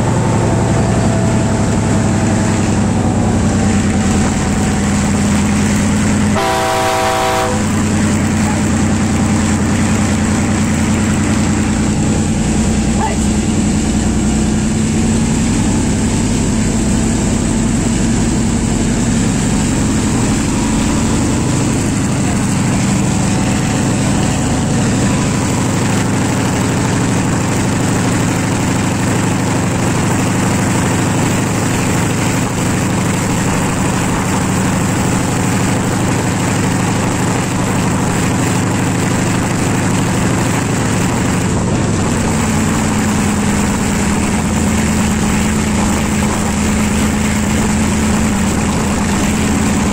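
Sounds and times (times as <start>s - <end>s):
diesel locomotive engine running: 0.0s - 49.9s
moving train noise: 0.0s - 49.9s.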